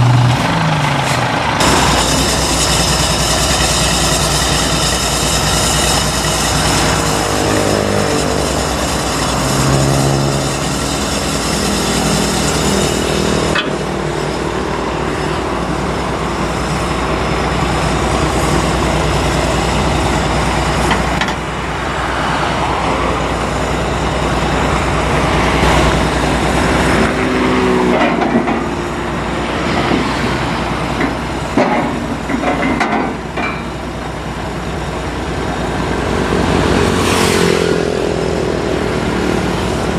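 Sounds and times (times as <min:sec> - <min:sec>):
truck engine running: 0:00.0 - 0:37.0
combine harvester engine: 0:00.0 - 0:39.9.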